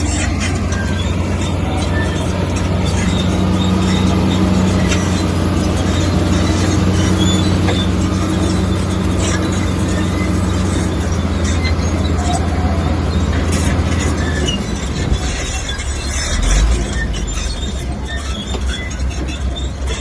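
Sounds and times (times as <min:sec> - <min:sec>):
bulldozer diesel engine running: 0:00.0 - 0:20.0
steel tracks squeaking and clicking: 0:00.0 - 0:20.0.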